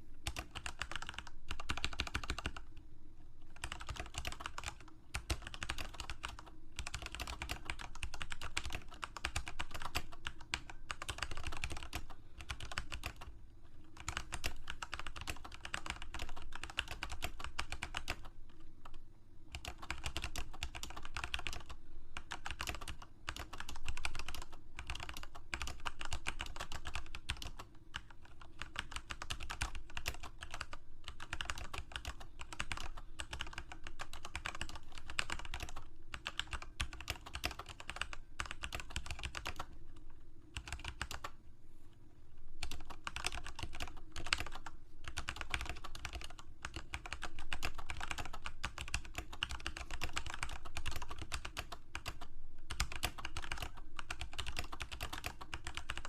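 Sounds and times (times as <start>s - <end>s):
typing on computer keyboard: 0.2s - 2.6s, 3.6s - 13.3s, 14.0s - 39.7s, 40.6s - 41.4s, 42.6s - 56.0s.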